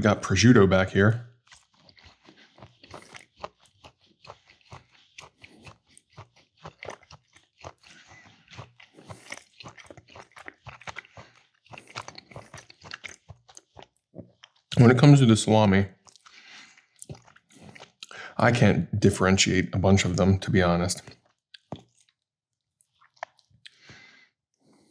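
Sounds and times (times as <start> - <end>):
person chewing food: 1.3 - 18.7, 20.9 - 24.9.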